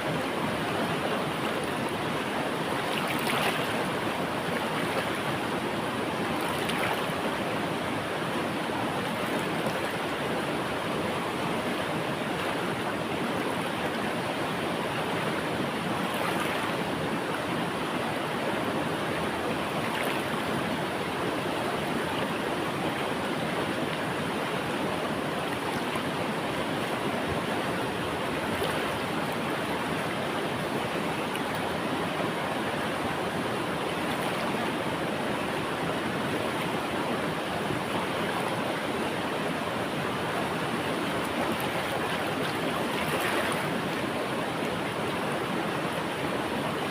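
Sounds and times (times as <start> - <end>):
faint water splashes: 0.0 - 46.9
river water rushing: 0.0 - 46.9.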